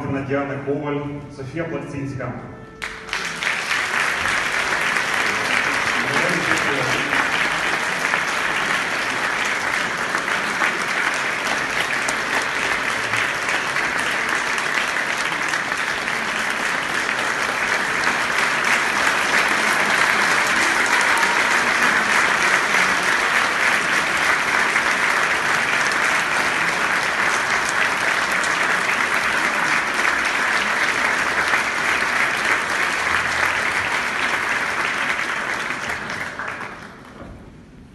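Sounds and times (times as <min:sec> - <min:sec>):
audience applauding: 0:02.8 - 0:37.4.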